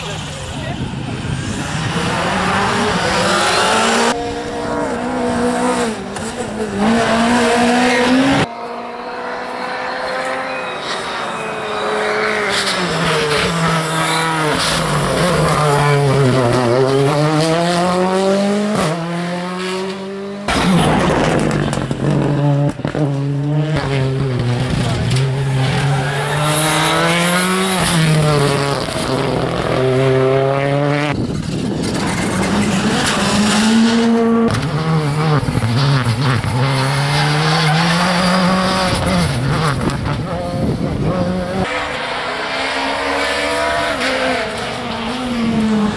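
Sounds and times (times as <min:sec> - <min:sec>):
rally car engines accelerating: 0:00.0 - 0:45.9.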